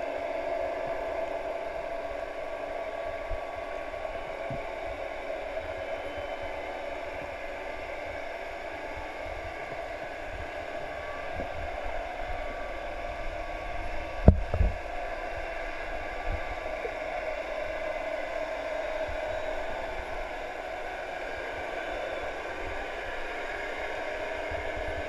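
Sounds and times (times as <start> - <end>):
muffled underwater hiss and rumble: 0.0 - 25.0.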